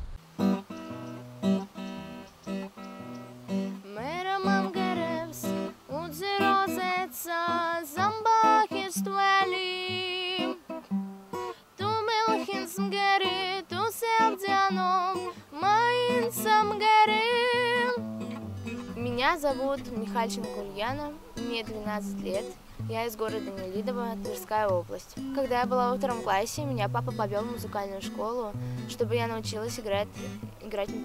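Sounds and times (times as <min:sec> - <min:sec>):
strummed acoustic guitar: 0:00.0 - 0:31.0
girl singing: 0:03.8 - 0:10.7, 0:11.5 - 0:18.2, 0:18.8 - 0:31.0.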